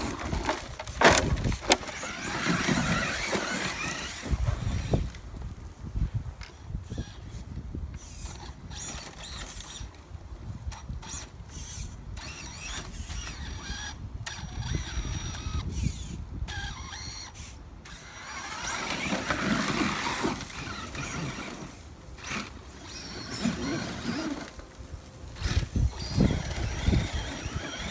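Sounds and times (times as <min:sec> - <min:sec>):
electric toy truck motor whining: 0:00.0 - 0:05.3, 0:06.7 - 0:27.9.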